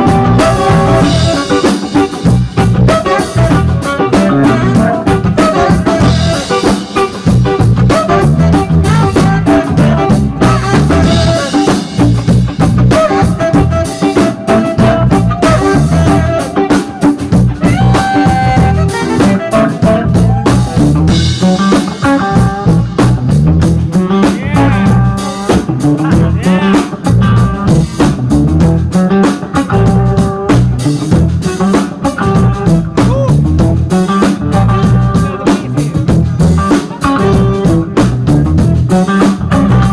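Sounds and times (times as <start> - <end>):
drum kit with rimshots: 0.0 - 39.9
electric bass: 0.0 - 39.9
electric guitar melody: 0.0 - 39.9.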